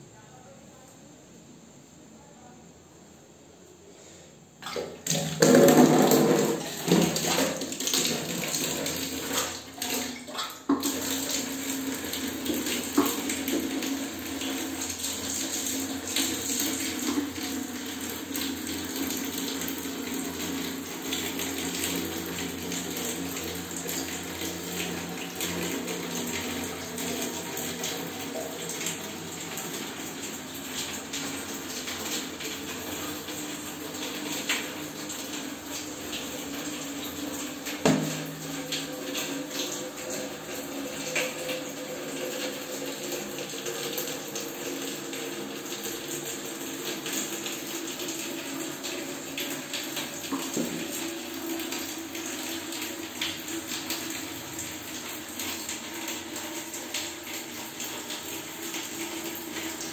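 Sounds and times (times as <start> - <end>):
water running: 4.6 - 59.9.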